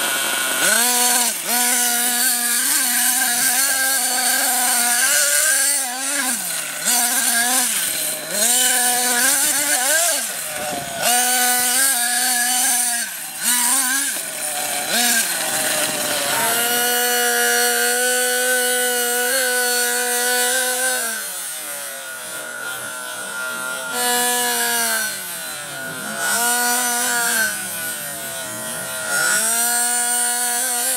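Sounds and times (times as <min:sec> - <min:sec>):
small nitro engine revving: 0:00.0 - 0:30.9.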